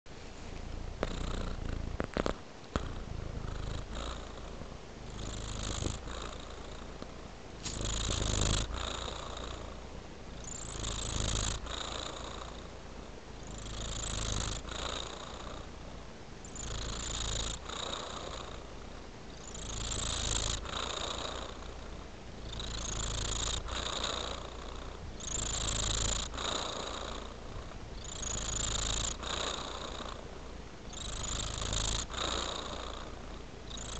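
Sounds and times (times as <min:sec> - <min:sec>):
cat purring: 0:00.2 - 0:33.9.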